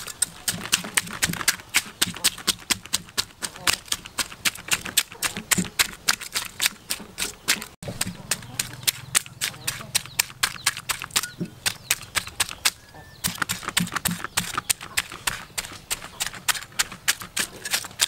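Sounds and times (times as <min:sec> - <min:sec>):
cleaver scraping fish scales: 0:00.0 - 0:18.0.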